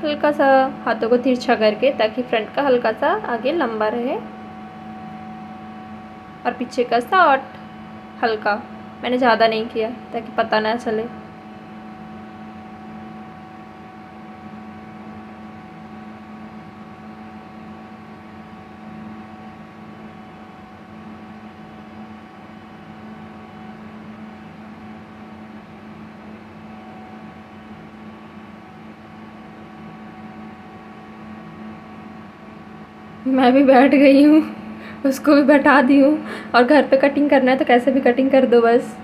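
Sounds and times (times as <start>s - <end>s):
mechanical hum with tones: 0.0s - 39.0s.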